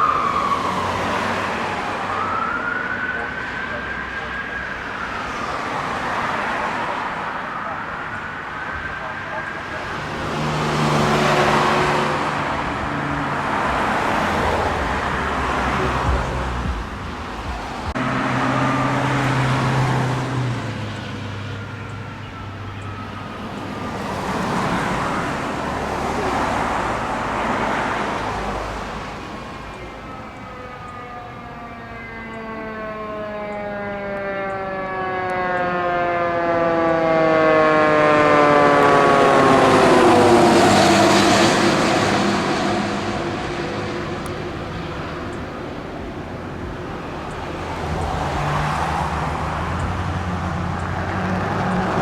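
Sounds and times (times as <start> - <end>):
fire truck siren wailing: 0.0 - 52.0
traffic passing: 0.0 - 52.0.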